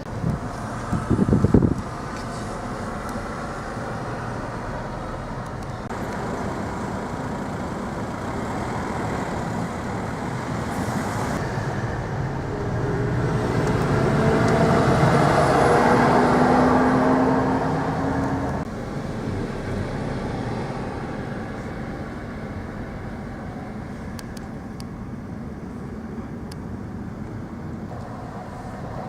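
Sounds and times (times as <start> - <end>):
car tyre and engine noise: 0.0 - 29.0.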